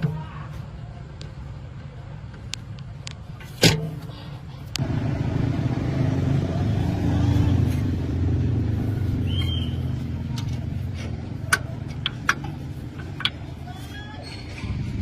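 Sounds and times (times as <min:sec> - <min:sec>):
heavy engine rumbling: 0:00.0 - 0:15.0.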